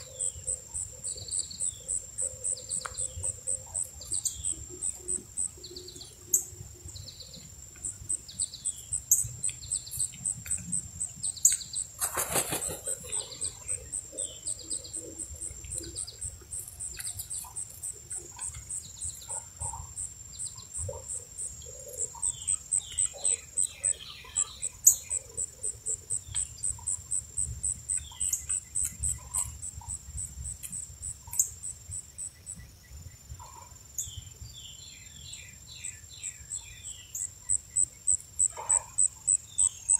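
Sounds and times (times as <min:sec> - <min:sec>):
insects chirping: 0:00.0 - 0:39.9
small birds chirping: 0:00.0 - 0:39.9.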